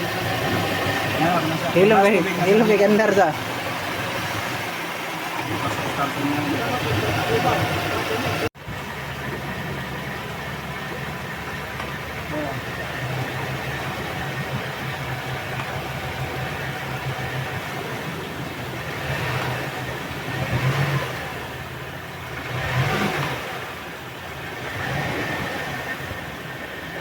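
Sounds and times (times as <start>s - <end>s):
outboard motor idling: 0.0s - 27.0s.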